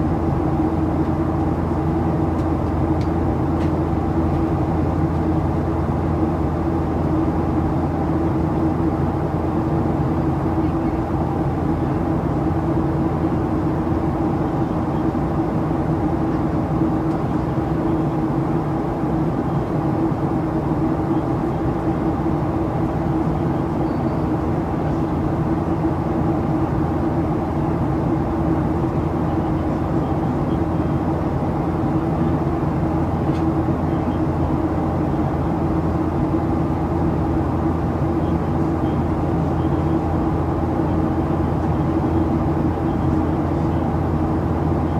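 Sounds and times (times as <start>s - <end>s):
airplane cabin engine noise: 0.0s - 44.9s.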